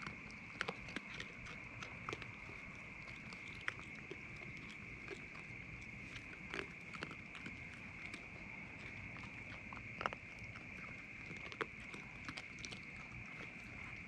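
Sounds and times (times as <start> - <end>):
animals crunching food: 0.0 - 14.0
night insects droning: 0.0 - 14.0.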